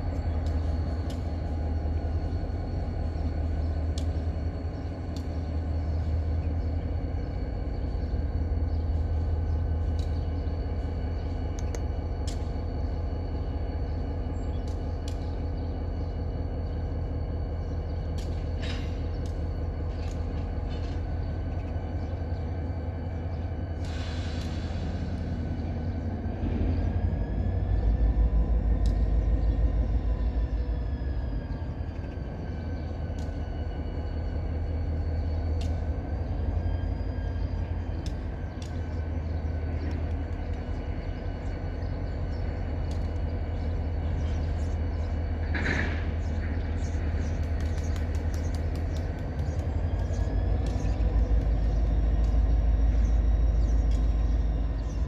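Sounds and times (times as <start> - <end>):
diesel locomotive rumble: 0.0 - 55.0.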